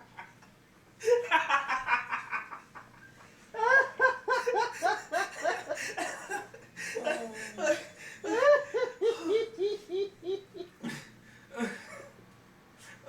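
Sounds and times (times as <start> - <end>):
young men laughing: 1.0 - 12.2.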